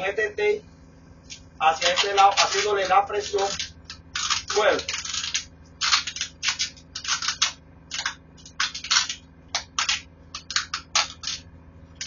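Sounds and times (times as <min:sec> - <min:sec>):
duct tape tearing off roll: 0:01.8 - 0:11.5.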